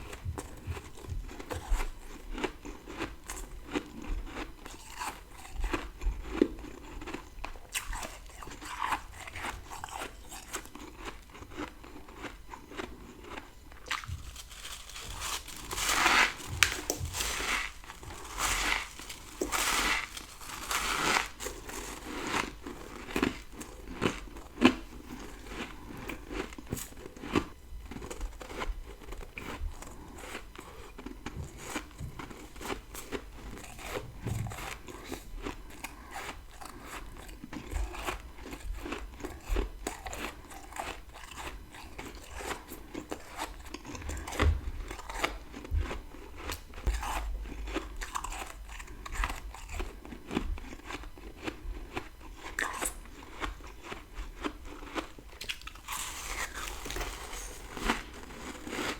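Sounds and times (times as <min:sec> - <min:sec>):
chewing crunchy ice: 0:00.0 - 0:58.9.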